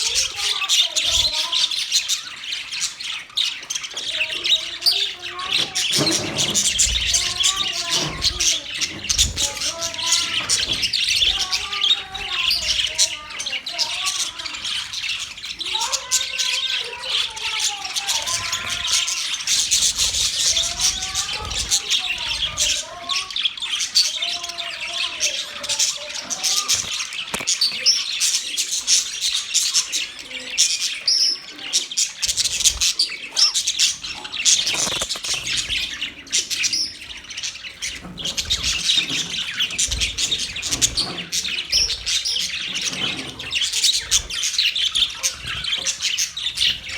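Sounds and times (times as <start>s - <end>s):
budgerigars chirping: 0.0s - 46.9s
low warbling bird calls: 4.2s - 46.9s.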